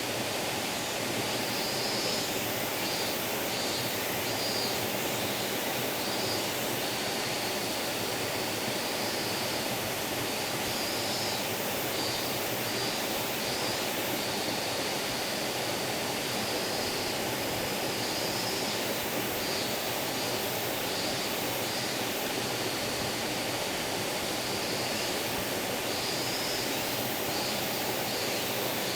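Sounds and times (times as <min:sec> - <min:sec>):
cicada buzz: 0:00.8 - 0:28.9.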